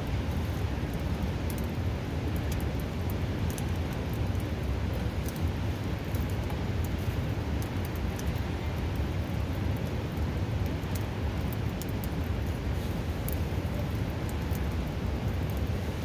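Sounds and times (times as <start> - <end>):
campfire crackling and popping: 0.5 - 8.4, 9.0 - 15.8.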